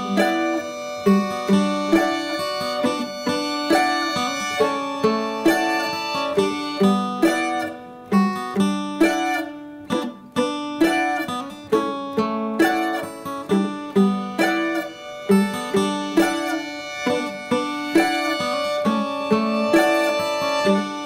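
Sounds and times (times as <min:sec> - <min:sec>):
plucked string instrument melody: 0:00.0 - 0:21.0.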